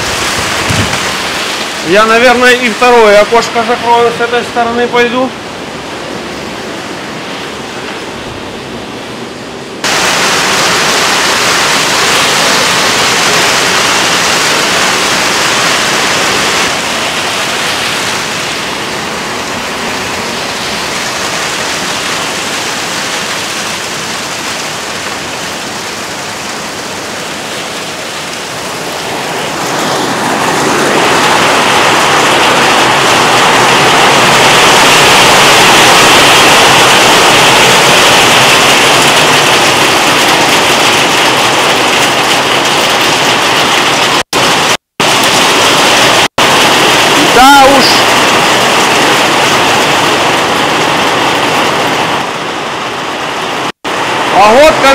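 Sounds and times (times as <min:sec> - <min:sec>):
heavy rain and hail: 0:00.0 - 0:54.9.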